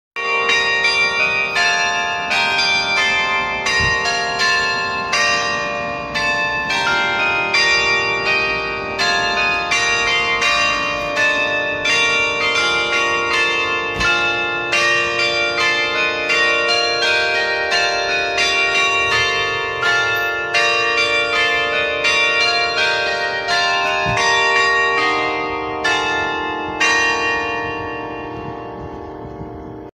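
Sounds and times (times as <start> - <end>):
church bells pealing: 0.2 - 29.9.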